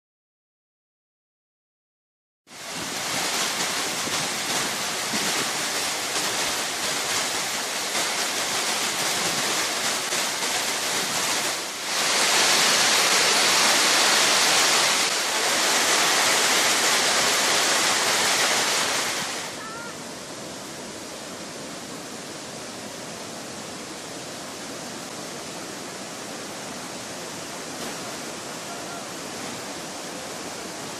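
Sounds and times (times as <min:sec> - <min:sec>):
heavy rain pouring: 0:02.5 - 0:30.9
river rushing: 0:02.5 - 0:30.9.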